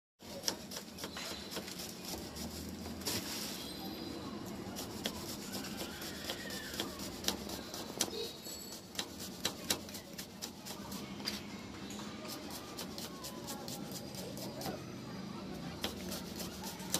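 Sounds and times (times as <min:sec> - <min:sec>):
steady background noise: 0:00.2 - 0:16.9.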